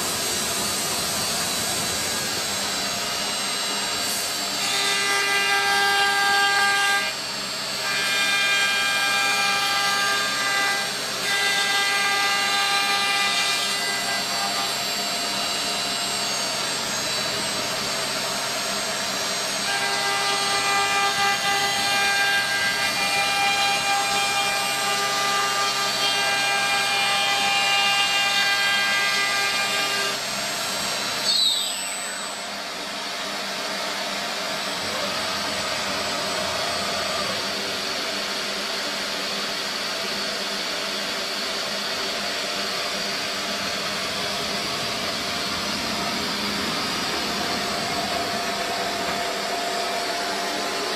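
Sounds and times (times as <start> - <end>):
router spindle whining: 0.0 - 50.9.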